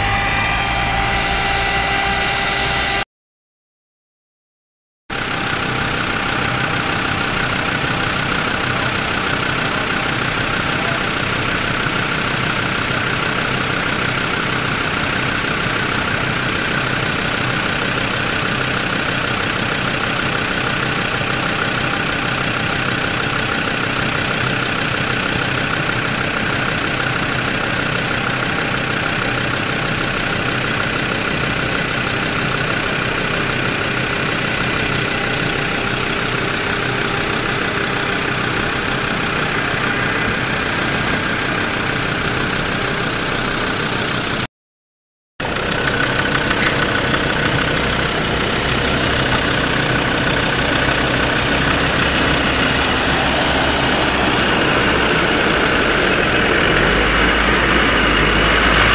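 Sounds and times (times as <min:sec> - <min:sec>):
vehicle engine running: 0:00.0 - 0:03.0, 0:05.1 - 0:44.5, 0:45.4 - 0:58.9.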